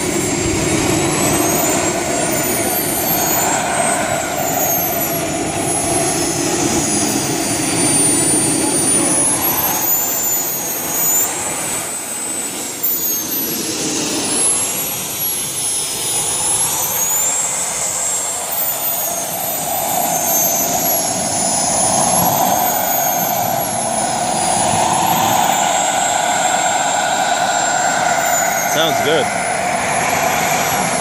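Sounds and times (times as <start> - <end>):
model jet whine: 0.0 - 31.0
steady rushing sound: 0.0 - 31.0.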